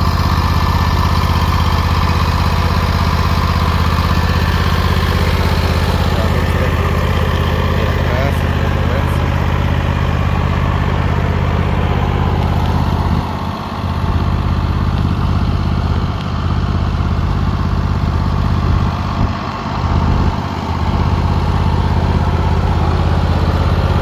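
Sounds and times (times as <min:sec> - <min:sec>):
riding mower engine running: 0:00.0 - 0:24.0.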